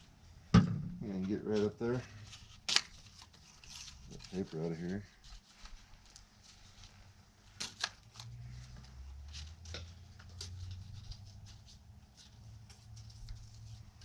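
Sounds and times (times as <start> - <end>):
paper rustling: 1.1 - 14.0.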